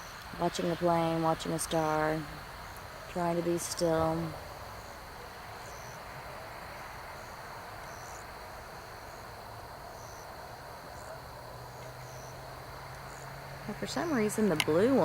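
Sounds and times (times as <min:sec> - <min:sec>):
crickets chirping: 0:00.0 - 0:15.0
low steady hum: 0:00.0 - 0:15.0.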